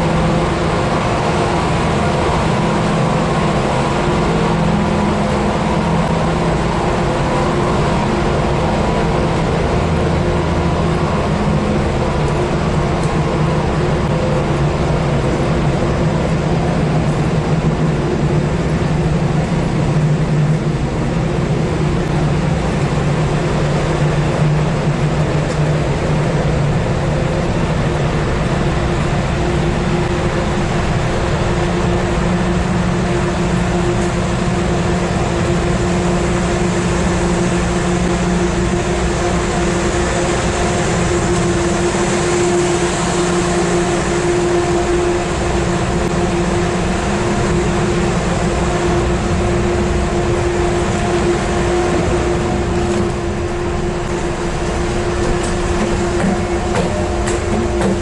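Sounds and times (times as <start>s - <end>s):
ship engines droning: 0.0s - 58.0s.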